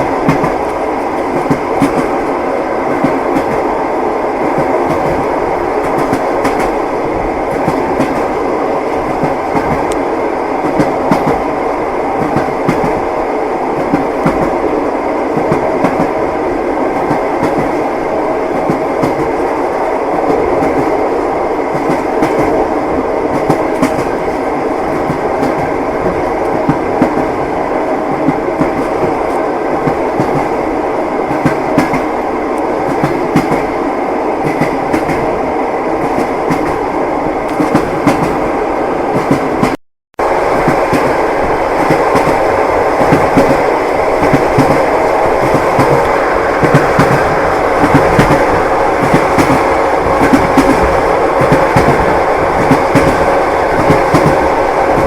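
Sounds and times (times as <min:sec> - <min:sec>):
train wheels clattering on rails: 0:00.0 - 0:33.8, 0:34.4 - 0:35.4, 0:36.0 - 0:39.8, 0:40.4 - 0:55.0.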